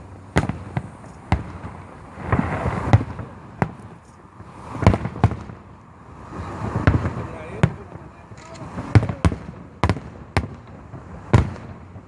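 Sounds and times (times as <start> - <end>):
firework crackling: 0.0 - 12.0
firework shells bursting: 0.0 - 12.0.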